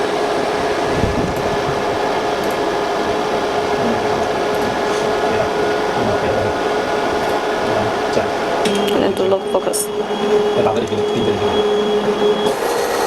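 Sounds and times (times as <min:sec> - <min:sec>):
constant hum: 0:00.0 - 0:13.0
cooling fan whirring: 0:00.0 - 0:13.0.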